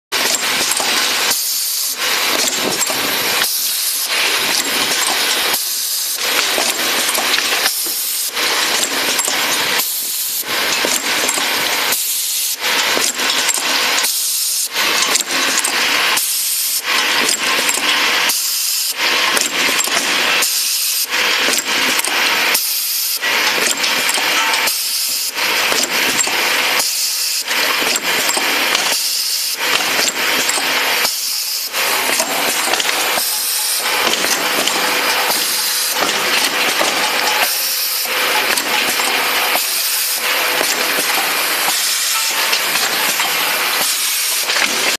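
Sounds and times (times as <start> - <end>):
filling machine hissing and clicking: 0.2 - 44.9.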